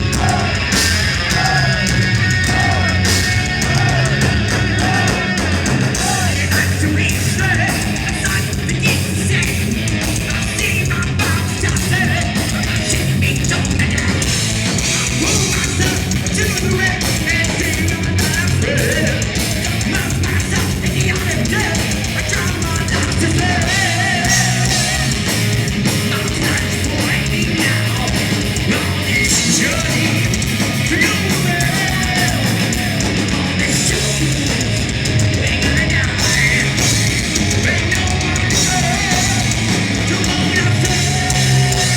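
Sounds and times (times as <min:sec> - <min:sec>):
bass guitar: 0:00.0 - 0:41.9
distorted electric guitars: 0:00.0 - 0:41.9
drums: 0:00.0 - 0:41.9.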